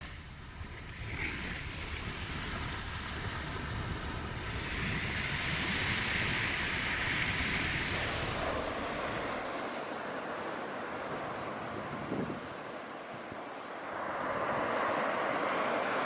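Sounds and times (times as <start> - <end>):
waves breaking on shore: 0.1 - 16.0.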